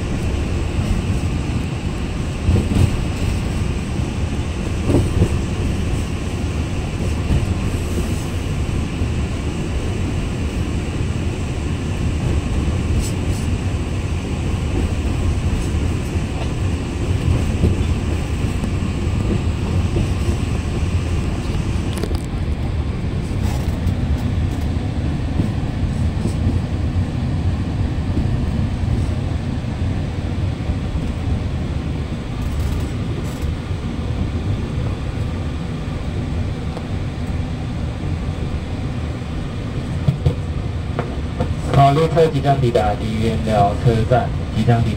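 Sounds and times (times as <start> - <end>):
train rumble inside carriage: 0.0 - 44.9.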